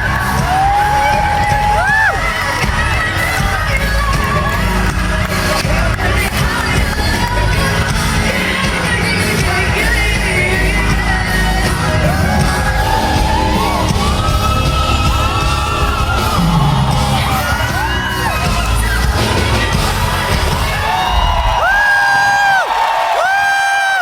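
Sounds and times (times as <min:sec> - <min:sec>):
crowd yelling and whooping: 0:00.0 - 0:24.0
live pop ballad with band: 0:00.0 - 0:24.0.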